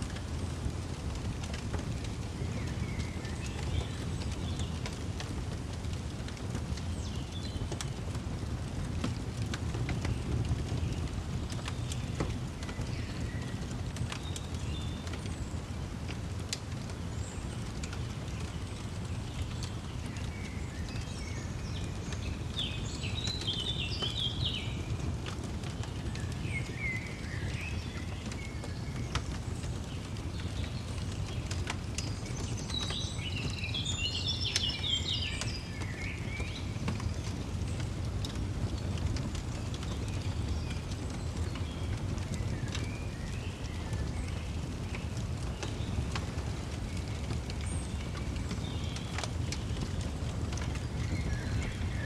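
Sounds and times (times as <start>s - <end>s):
fire low rumble: 0.0s - 52.0s
fire popping: 0.0s - 52.0s.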